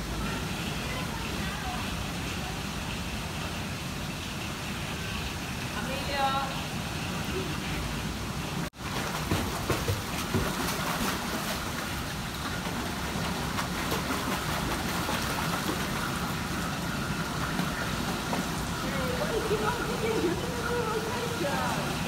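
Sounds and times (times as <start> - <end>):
pool water splashing: 0.0 - 22.0.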